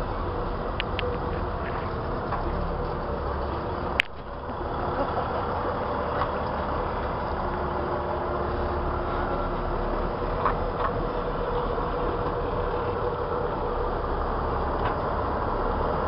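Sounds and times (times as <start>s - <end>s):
diesel engine driving past: 0.0s - 16.0s.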